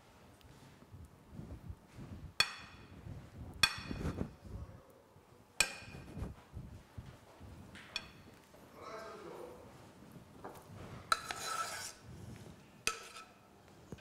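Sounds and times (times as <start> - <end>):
soft handling and scraping: 0.0 - 4.7, 5.8 - 8.8, 9.4 - 14.0.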